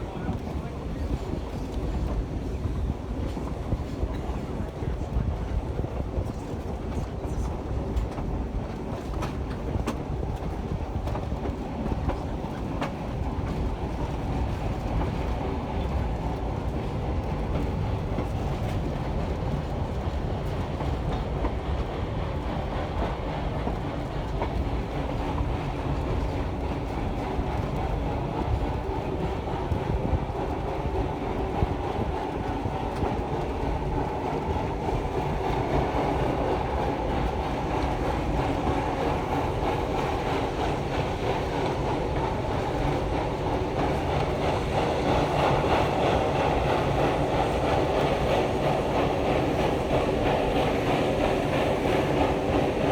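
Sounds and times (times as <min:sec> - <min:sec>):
train wheels rumbling on rail: 0:00.0 - 0:52.9
rail joint clicks: 0:00.2 - 0:52.9.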